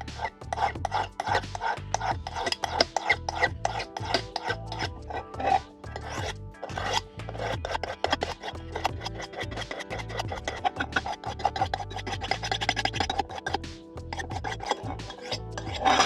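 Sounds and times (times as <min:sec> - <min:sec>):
metal rasping on abrasive surface: 0:00.0 - 0:16.0.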